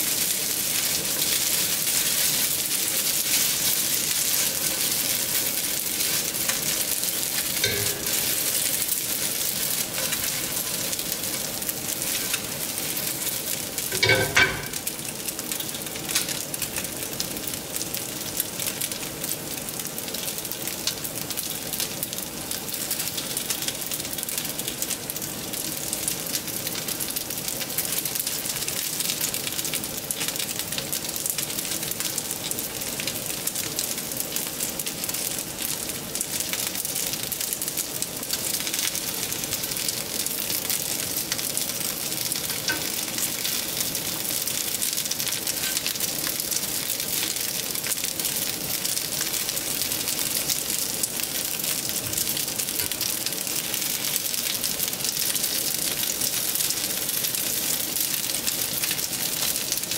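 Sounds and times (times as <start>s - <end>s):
dumplings sizzling in frying pan: 0.0s - 59.9s.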